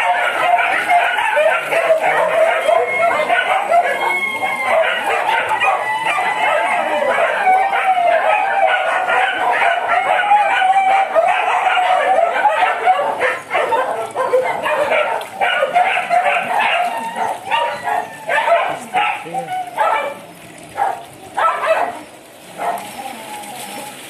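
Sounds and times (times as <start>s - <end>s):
many animals calling: 0.0s - 19.8s.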